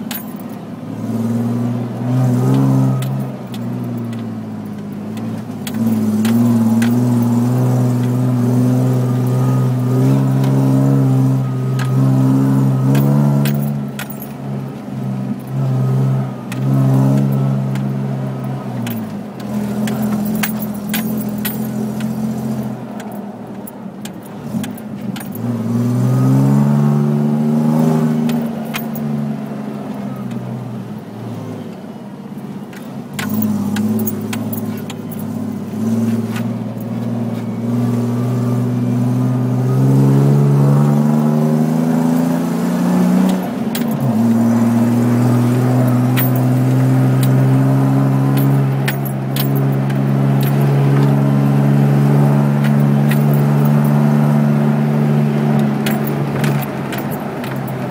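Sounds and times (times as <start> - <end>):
car engine shifting gears: 0.0 - 57.9.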